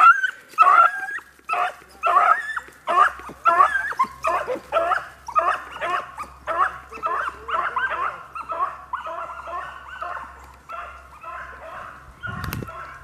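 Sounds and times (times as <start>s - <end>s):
dogs yipping and barking: 0.0s - 13.0s.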